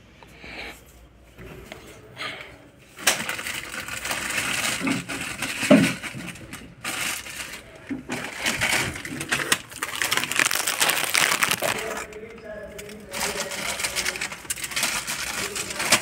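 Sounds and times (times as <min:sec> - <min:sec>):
plastic wrappers crinkling: 0:03.0 - 0:16.0.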